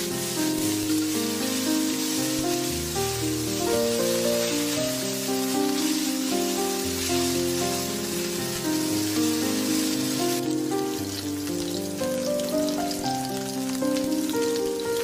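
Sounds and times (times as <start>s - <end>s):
instrumental background music: 0.0s - 15.0s
rice sizzling in a wok: 0.0s - 15.0s.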